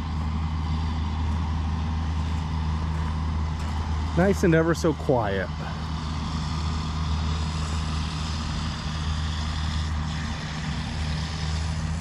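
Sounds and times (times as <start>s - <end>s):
four-wheeler engine running: 0.0s - 12.0s.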